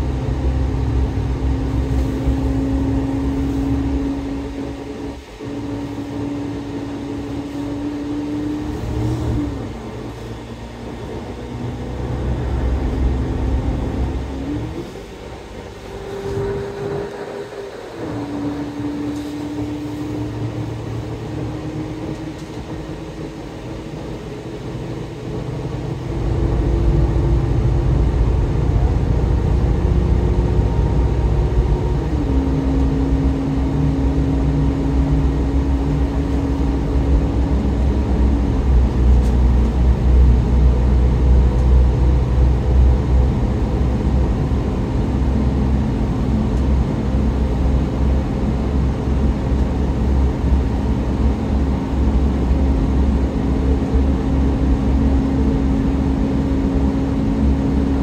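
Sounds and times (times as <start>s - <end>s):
bus engine and road rumble: 0.0s - 58.0s
rising whine: 0.0s - 58.0s.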